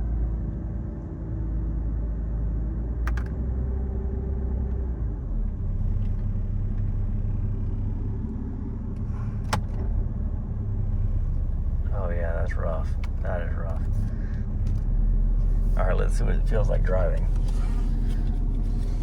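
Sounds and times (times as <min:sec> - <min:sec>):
car engine idling: 0:03.0 - 0:19.0.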